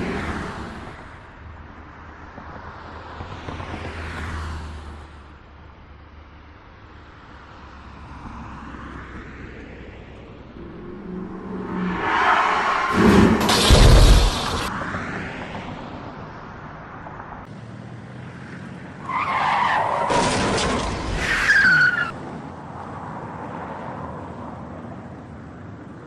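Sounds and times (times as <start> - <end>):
cars passing by: 0.0 - 26.0.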